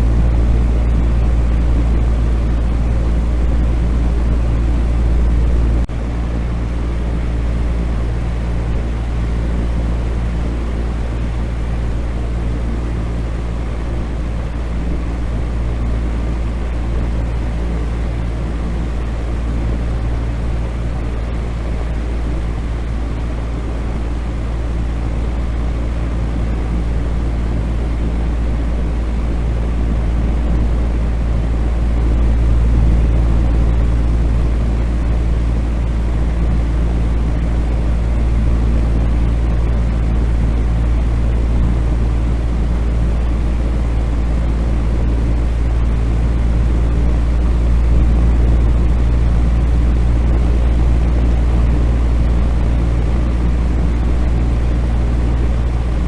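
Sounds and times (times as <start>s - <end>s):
fan humming: 0.0s - 56.0s.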